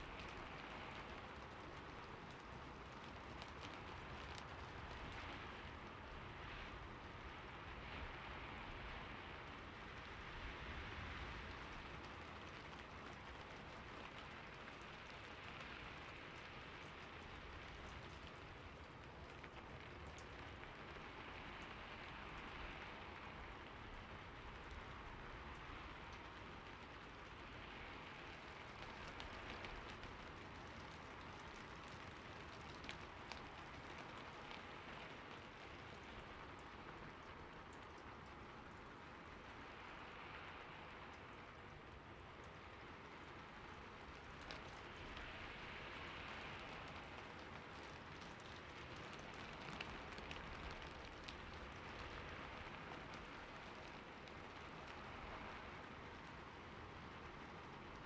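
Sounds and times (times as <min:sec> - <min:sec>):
rain hissing on a roof: 0:00.0 - 0:58.0.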